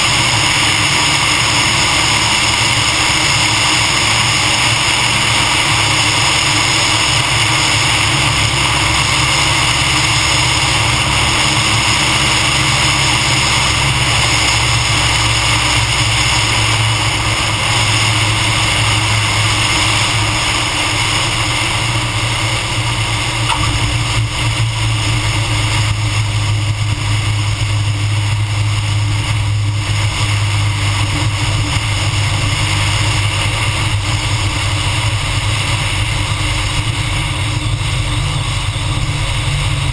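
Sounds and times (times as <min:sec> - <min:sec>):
light aircraft engine and propeller: 0:00.0 - 0:39.9
rushing airflow: 0:00.0 - 0:39.9.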